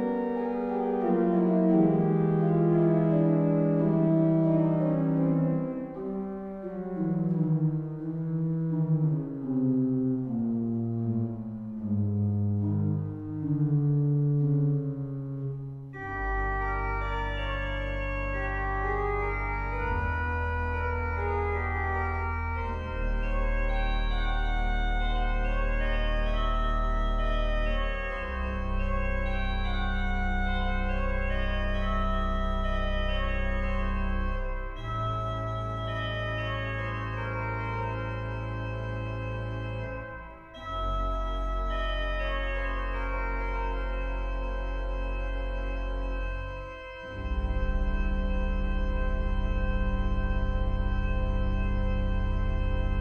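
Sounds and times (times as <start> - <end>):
pipe organ playing: 0.0 - 53.0.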